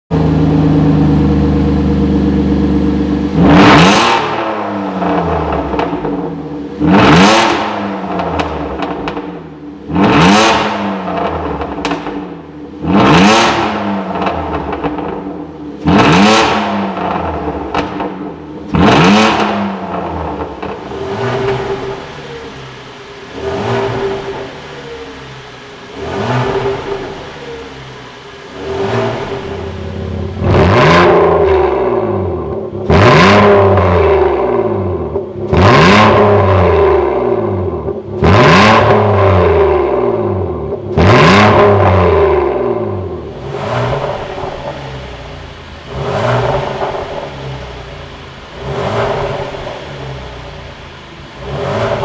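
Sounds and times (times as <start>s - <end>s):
car engine revving: 0.1s - 52.0s.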